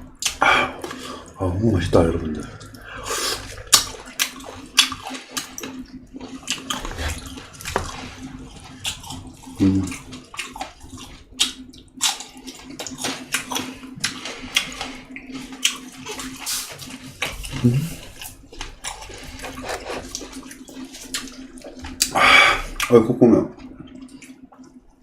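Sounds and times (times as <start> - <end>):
faint steady hum: 0.0 - 25.0
wet chewing and mouth smacks: 2.4 - 22.2, 23.6 - 24.8.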